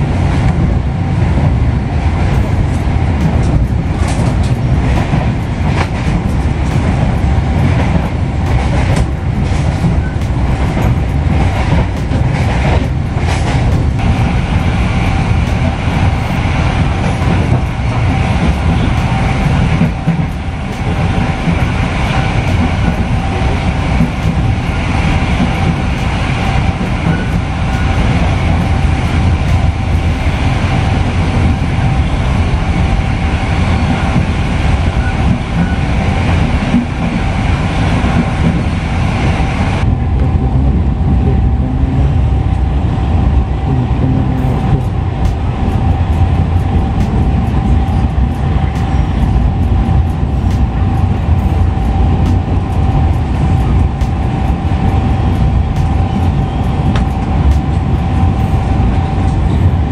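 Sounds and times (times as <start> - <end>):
train cabin rumble and hum: 0.0 - 59.9.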